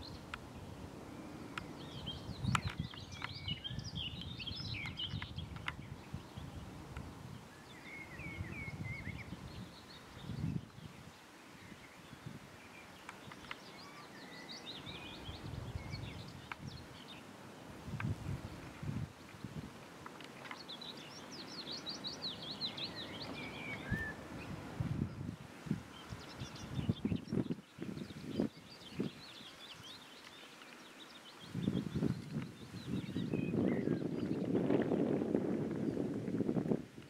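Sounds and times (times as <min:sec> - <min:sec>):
small birds chirping: 0:00.0 - 0:17.3, 0:17.9 - 0:36.2.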